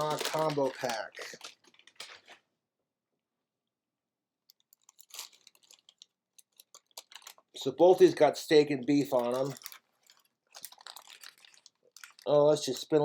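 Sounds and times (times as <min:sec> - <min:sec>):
wrappers crinkling: 0:00.0 - 0:02.5, 0:04.5 - 0:13.0.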